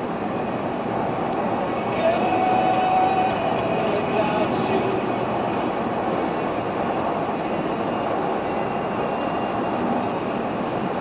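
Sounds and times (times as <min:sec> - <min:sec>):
road and tyre noise in car: 0:00.0 - 0:11.0.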